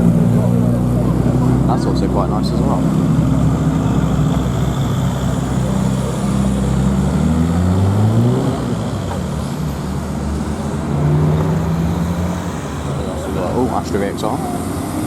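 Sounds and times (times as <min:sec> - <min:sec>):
car engine driving past: 0:00.0 - 0:15.0.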